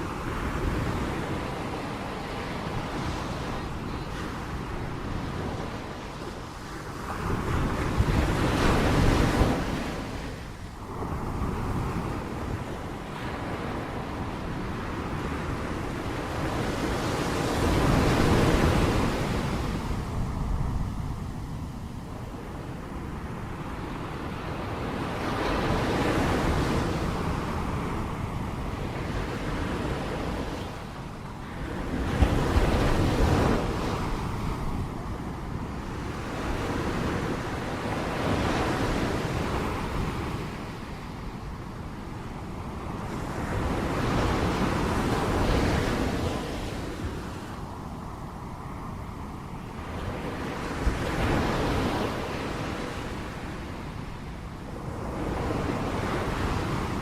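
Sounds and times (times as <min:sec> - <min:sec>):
ocean waves crashing on shore: 0:00.0 - 0:57.0.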